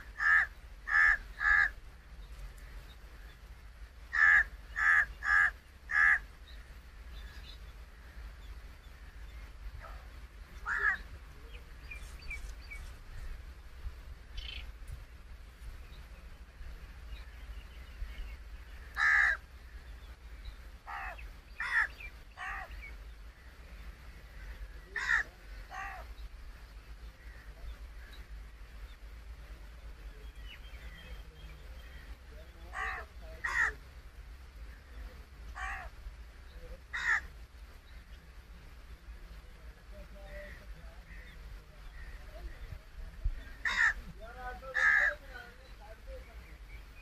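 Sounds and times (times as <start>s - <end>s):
harsh bird calls: 0.0s - 13.6s, 14.3s - 33.8s, 34.5s - 39.2s, 39.8s - 47.0s.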